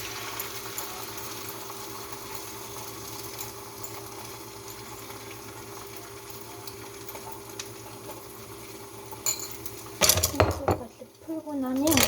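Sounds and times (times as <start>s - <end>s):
small oil crackles: 0.0s - 10.0s
oil sizzling in a frying pan: 0.0s - 12.0s.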